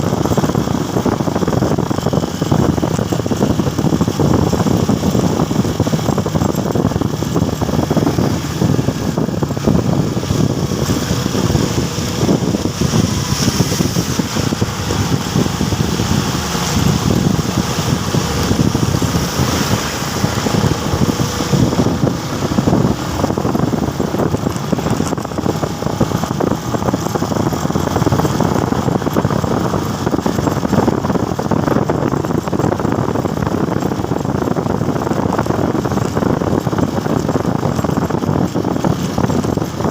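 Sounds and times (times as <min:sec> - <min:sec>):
motorcycle engine and road noise: 0:00.0 - 0:39.9.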